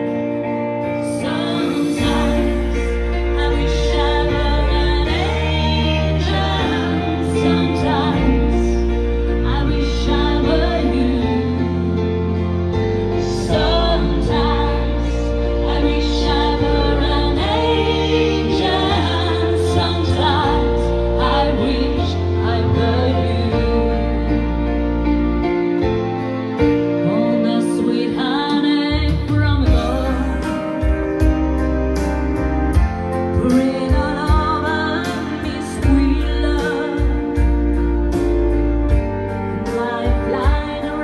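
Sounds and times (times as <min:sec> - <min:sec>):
slow electronic keyboard song: 0:00.0 - 0:41.0.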